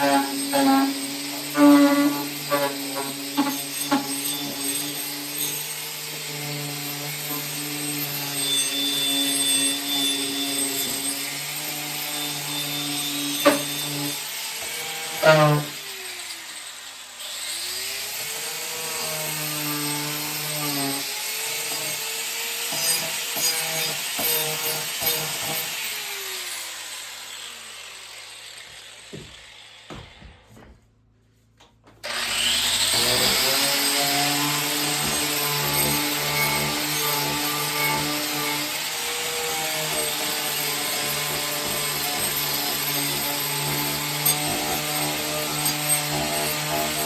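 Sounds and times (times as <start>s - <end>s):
power saw cutting wood: 0.0s - 30.6s, 32.0s - 47.0s.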